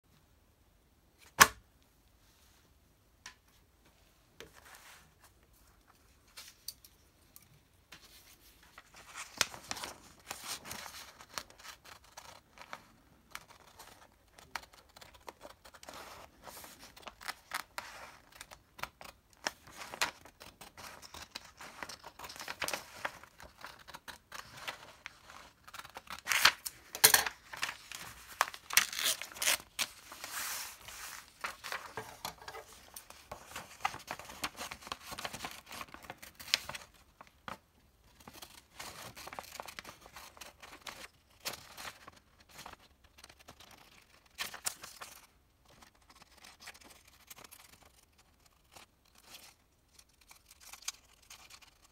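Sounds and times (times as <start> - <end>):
paper rustling and crinkling: 7.9 - 51.9.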